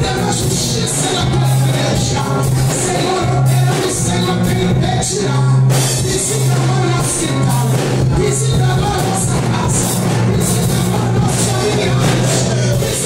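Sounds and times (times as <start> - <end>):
gospel band playing: 0.0 - 13.0.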